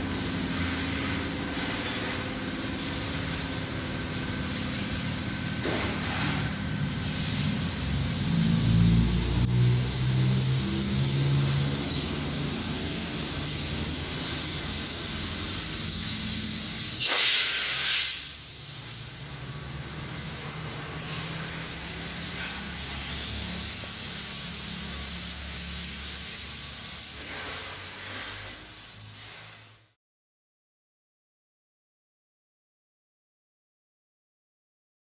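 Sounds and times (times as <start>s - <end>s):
pressure washer spray hissing: 0.0s - 29.9s.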